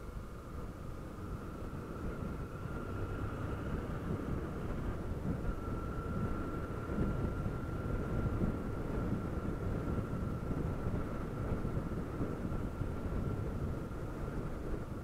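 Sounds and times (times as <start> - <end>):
faint high whine: 0.0 - 15.0
wind rumbling on microphone: 0.0 - 15.0.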